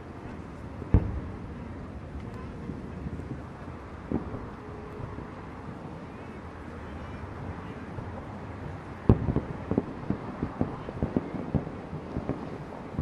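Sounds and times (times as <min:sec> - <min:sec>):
fireworks bursting with bangs: 0:00.0 - 0:05.8, 0:07.6 - 0:13.0
low background rumble: 0:00.0 - 0:13.0.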